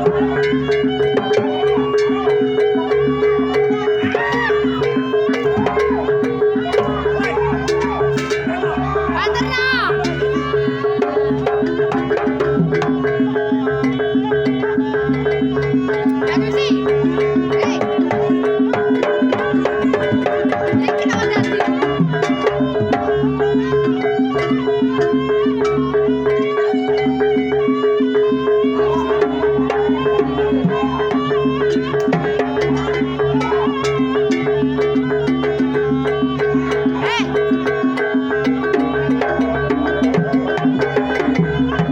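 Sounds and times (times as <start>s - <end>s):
gamelan music with drums: 0.0s - 41.9s
wavering melody: 0.0s - 41.9s.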